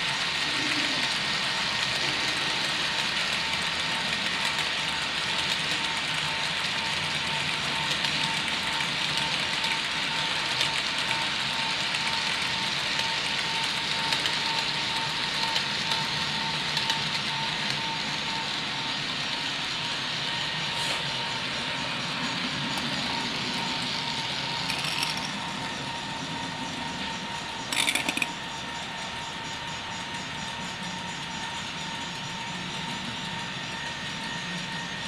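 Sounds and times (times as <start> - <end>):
model train wheels on rails: 0.0 - 35.0
steady high hum: 0.0 - 35.0.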